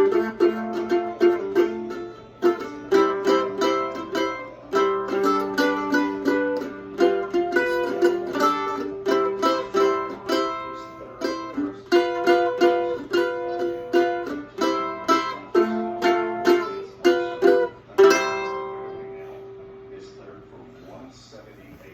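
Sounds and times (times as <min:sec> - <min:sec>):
mandolin playing blues: 0:00.0 - 0:21.0.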